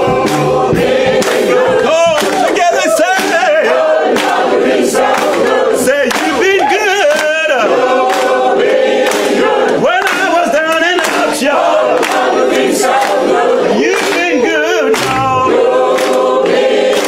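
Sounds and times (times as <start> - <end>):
choir singing: 0.0 - 17.0
hand claps: 0.0 - 17.0.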